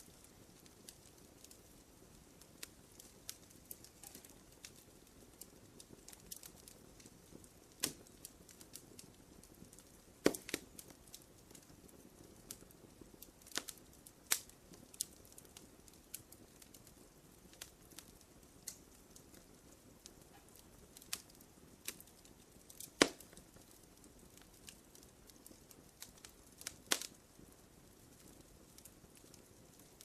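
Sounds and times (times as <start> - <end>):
faint low hiss: 0.0 - 30.0
wood fire crackling and popping: 0.0 - 30.0.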